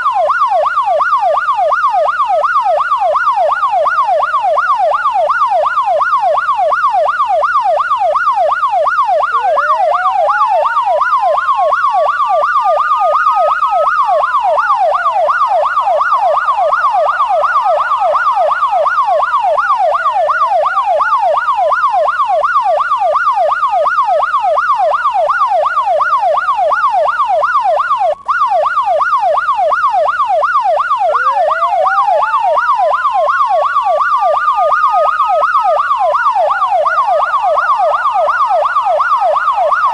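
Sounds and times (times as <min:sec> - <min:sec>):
siren yelp and wail: 0:00.0 - 0:39.9.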